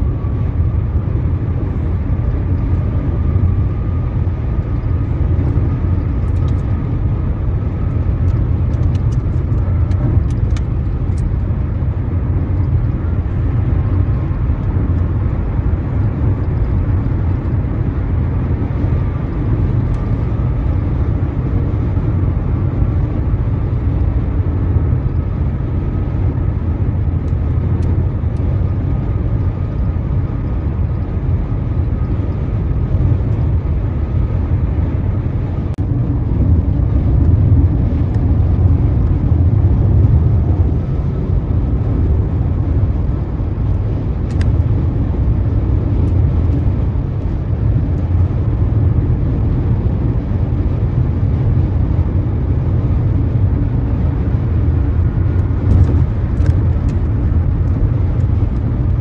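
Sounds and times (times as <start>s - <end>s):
car road and engine rumble: 0.0s - 59.0s
faint steady whine: 0.0s - 59.0s.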